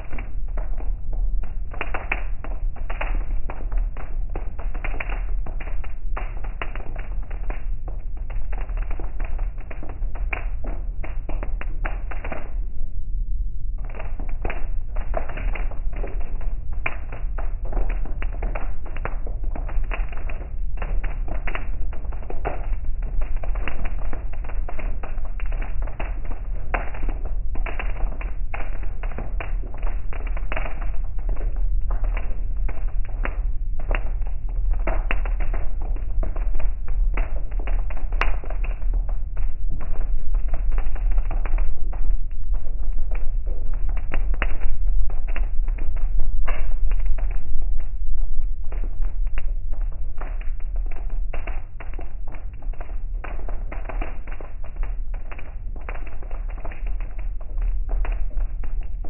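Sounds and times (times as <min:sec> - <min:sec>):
rain pattering on car roof: 0:00.0 - 0:12.6, 0:13.9 - 0:59.0.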